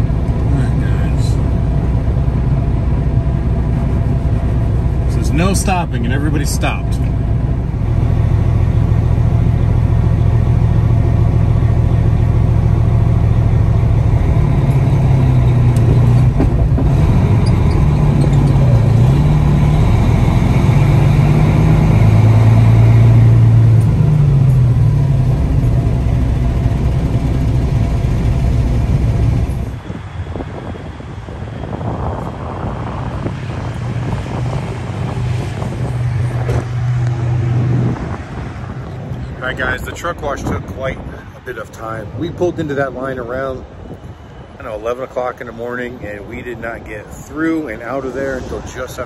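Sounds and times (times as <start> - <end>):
diesel truck engine drone: 0.0 - 49.0.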